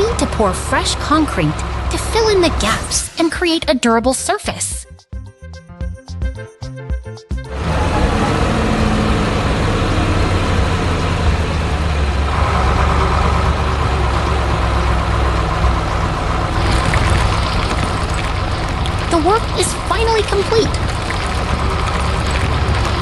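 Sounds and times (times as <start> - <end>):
truck engine deep rumble: 0.0 - 4.3, 7.4 - 23.0.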